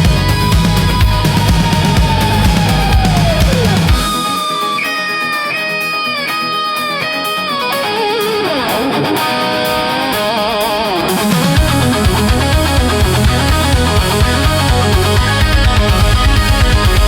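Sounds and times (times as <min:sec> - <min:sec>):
electric guitar bending notes: 0:00.0 - 0:17.0
rock band playing: 0:00.0 - 0:17.0.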